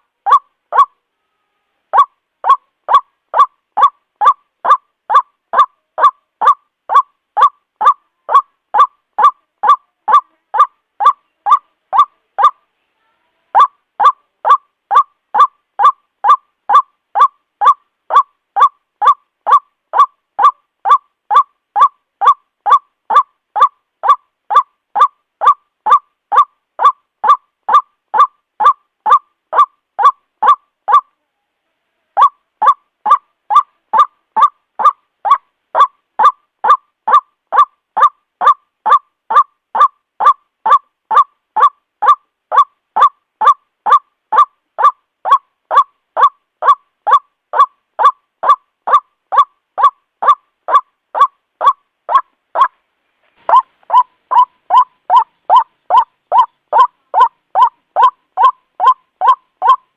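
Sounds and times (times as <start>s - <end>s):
waterhen repetitive call: 0.0s - 31.3s, 32.1s - 59.9s.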